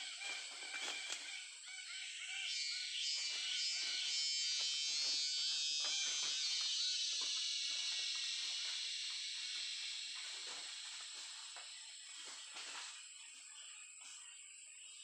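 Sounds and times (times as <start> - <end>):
high ringing insect chorus: 0.0 - 15.0.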